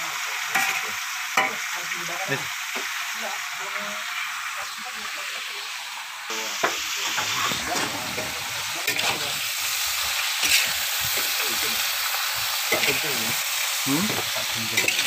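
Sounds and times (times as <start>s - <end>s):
greens sizzling in a wok: 0.0s - 15.0s.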